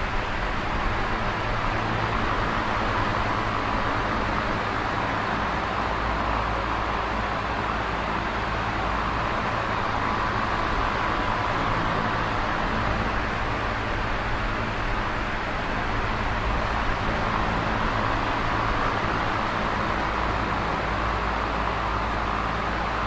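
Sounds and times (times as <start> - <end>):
electric fan running: 0.0 - 23.0.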